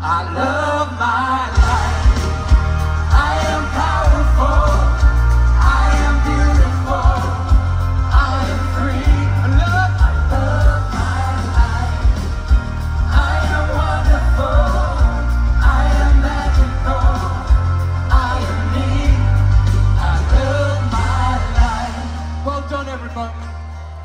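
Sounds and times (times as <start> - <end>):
live pop ballad over loudspeakers: 0.0 - 24.0.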